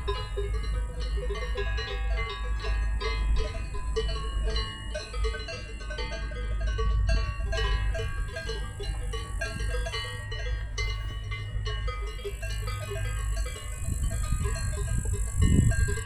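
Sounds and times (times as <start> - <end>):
bell-like ringing notes: 0.0 - 16.0
steady low rumble: 0.0 - 16.0.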